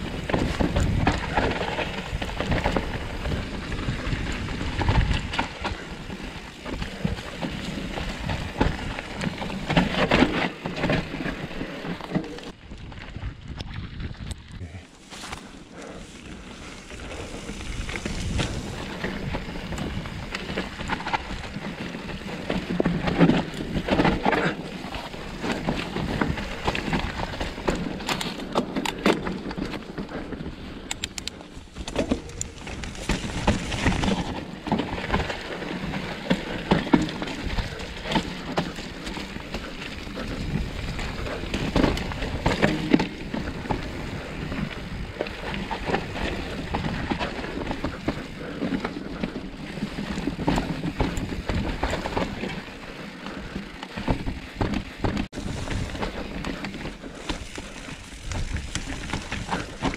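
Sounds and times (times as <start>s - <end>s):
bike knocks and rattles: 0.0s - 12.6s, 15.1s - 59.9s
bike tyres rolling over dirt: 0.0s - 59.9s.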